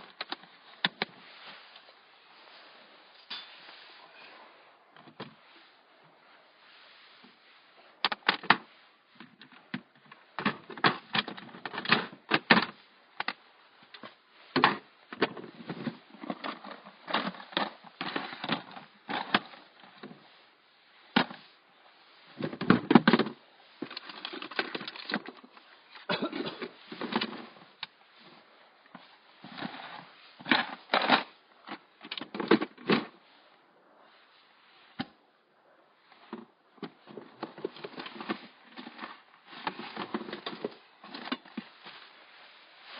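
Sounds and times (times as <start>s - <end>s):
rustling of objects: 0.0s - 42.9s.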